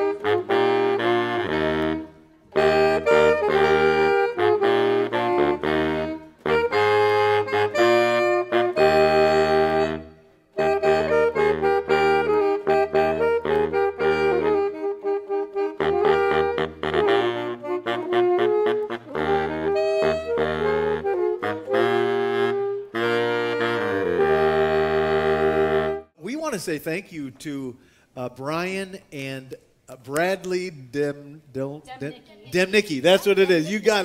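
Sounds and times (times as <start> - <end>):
saxophone trio playing: 0.0 - 26.2, 32.0 - 34.0.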